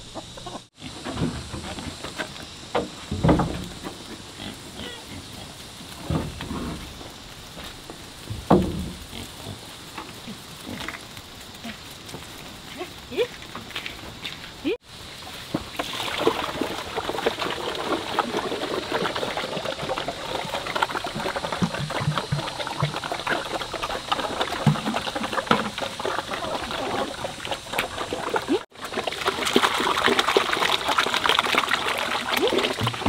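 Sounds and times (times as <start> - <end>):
water running and splashing: 5.5 - 33.0.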